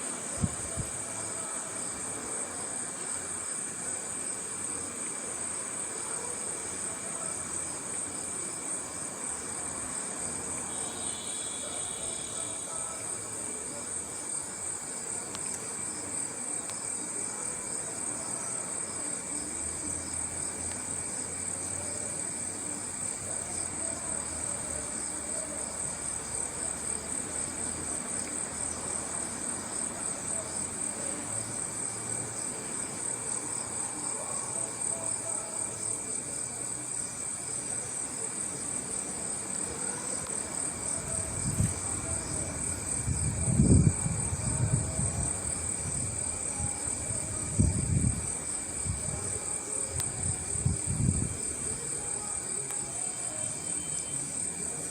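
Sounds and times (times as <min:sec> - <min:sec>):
crickets trilling: 0:00.0 - 0:54.9
lower insect trill: 0:00.0 - 0:54.9.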